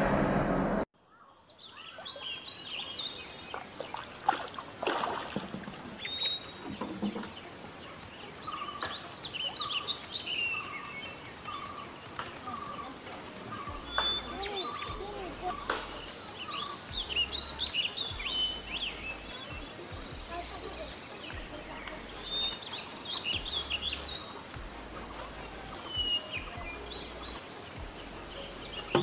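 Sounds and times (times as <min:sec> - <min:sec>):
wild birds chirping and calling: 0:01.0 - 0:29.0.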